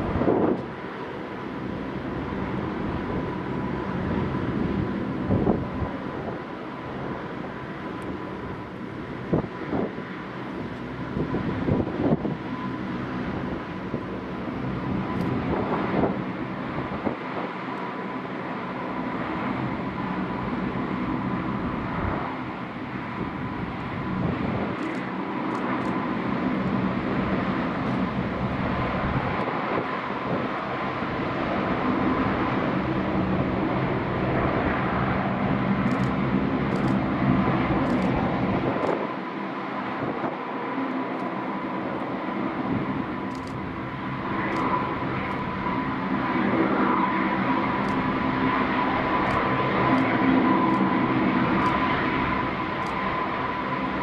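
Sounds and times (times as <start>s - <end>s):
high engine whine: 0.0s - 54.0s
turboprop engines droning: 0.0s - 54.0s.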